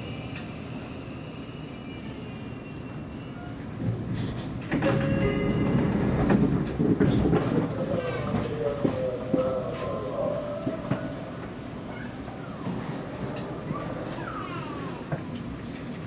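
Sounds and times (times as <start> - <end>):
train wheels rumbling: 2.8 - 16.0.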